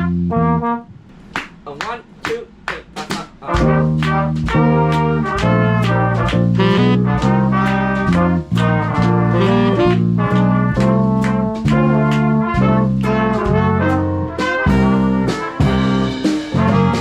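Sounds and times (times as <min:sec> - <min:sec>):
trumpets and trombones: 0:00.0 - 0:01.0, 0:03.4 - 0:17.0
swing big band playing: 0:00.0 - 0:01.6, 0:02.2 - 0:17.0
drum beats: 0:00.9 - 0:17.0.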